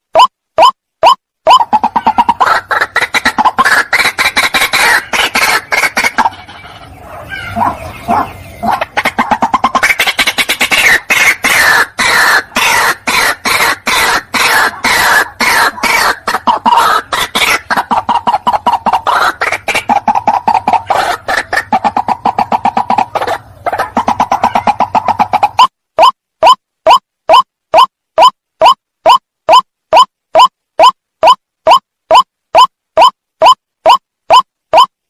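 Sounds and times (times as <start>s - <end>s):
waterhen calls: 0.2s - 34.9s.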